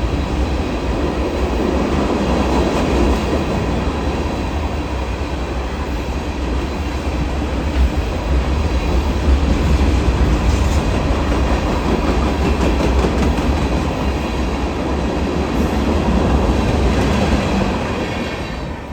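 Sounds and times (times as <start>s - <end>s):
freight train rumbling past: 0.0s - 18.9s.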